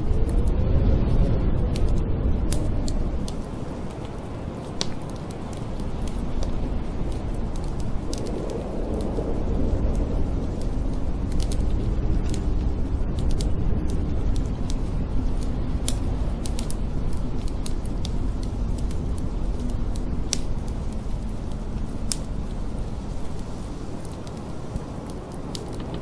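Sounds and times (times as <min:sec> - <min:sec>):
storm wind rumble: 0:00.0 - 0:26.0
wood fire crackling and popping: 0:01.6 - 0:26.0.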